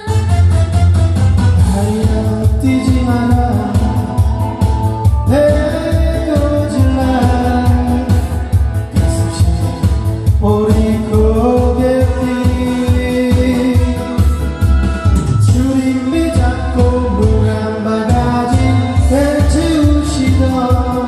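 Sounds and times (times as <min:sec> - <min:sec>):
song with singing voice: 0:00.0 - 0:21.0.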